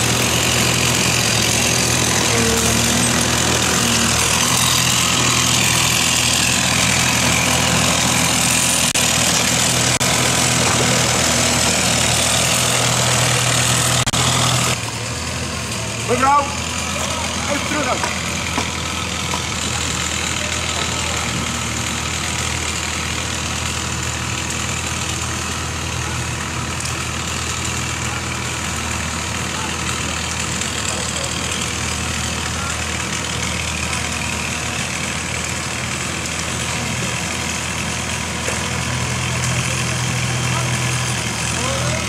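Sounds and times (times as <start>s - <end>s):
diesel engine running at low revs: 0.0s - 42.0s.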